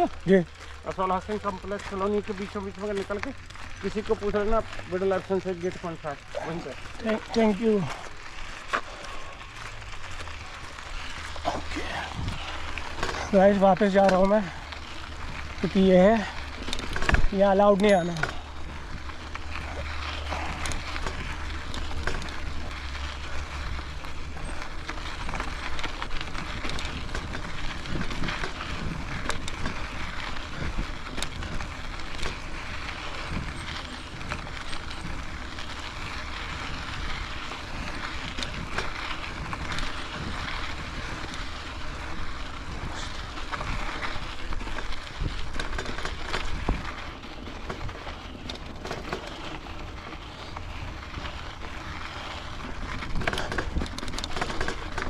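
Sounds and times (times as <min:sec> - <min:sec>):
bicycle clicks and rattles: 0:00.0 - 0:55.0
bicycle tyre noise: 0:00.0 - 0:55.0
wind rumbling on microphone: 0:06.2 - 0:55.0.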